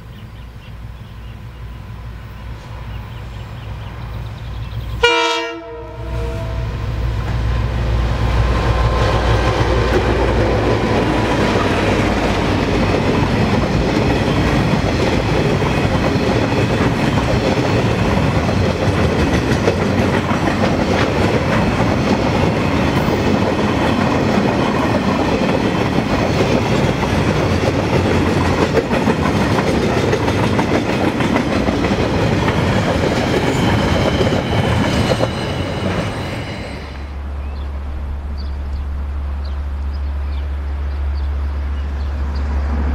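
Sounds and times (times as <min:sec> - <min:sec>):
diesel locomotive passing: 0:00.0 - 0:42.9.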